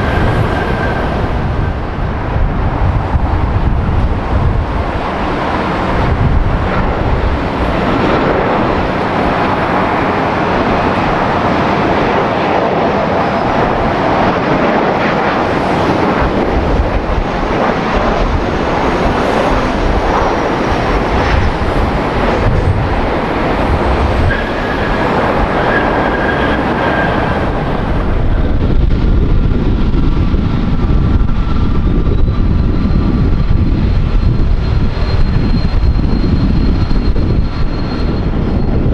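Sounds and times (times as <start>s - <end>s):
airliner engines running: 0.0s - 38.9s
deep rumble: 0.0s - 38.9s
whining engine tones: 0.0s - 38.9s.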